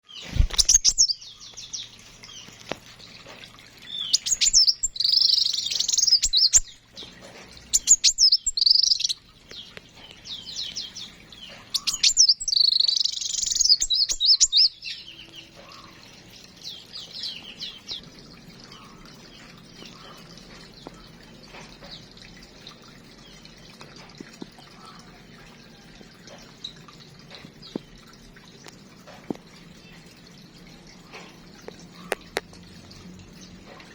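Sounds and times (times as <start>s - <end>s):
small birds chirping: 0.0s - 23.8s, 28.6s - 33.9s.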